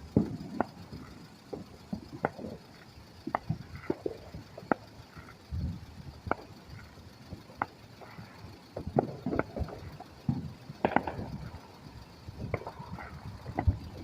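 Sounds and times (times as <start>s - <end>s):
distant fireworks pops and bangs: 0.0s - 14.0s
low rumble: 0.0s - 14.0s.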